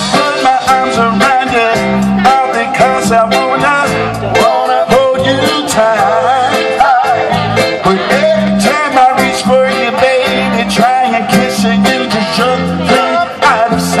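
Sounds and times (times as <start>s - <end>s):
live band playing soul song: 0.0s - 14.0s
person singing: 0.0s - 14.0s.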